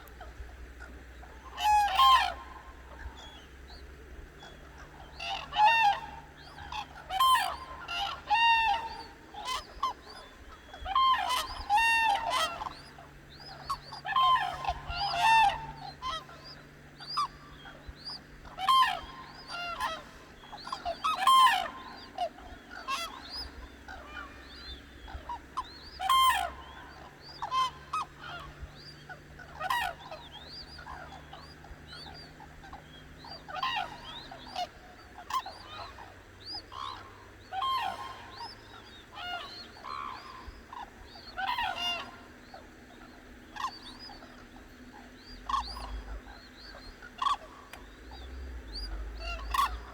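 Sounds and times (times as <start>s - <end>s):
cranes calling: 0.0s - 49.9s
faint low hum: 0.0s - 49.9s.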